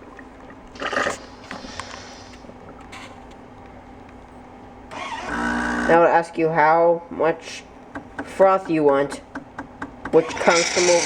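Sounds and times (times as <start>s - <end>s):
coffee machine humming: 0.0s - 6.2s, 7.8s - 11.0s.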